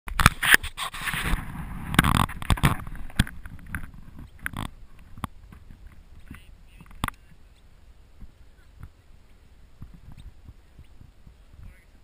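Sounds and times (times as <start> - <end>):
rustling: 0.1 - 12.0.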